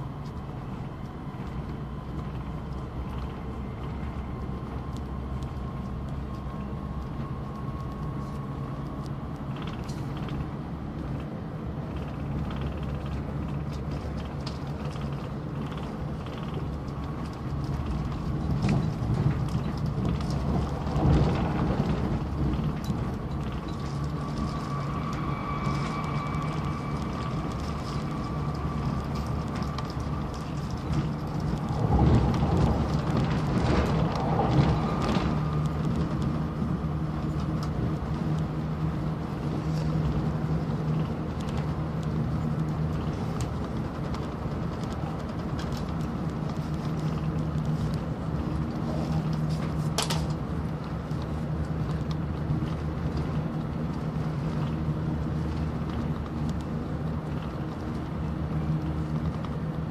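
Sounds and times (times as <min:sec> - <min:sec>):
faint steady whine: 0:00.0 - 0:59.9
train wheels rumbling on rail: 0:00.0 - 0:59.9.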